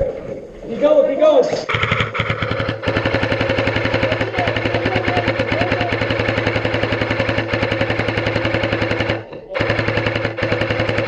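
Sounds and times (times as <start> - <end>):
airsoft gun full-auto rattle: 1.7 - 11.0
motor and gearbox hum: 1.7 - 11.0.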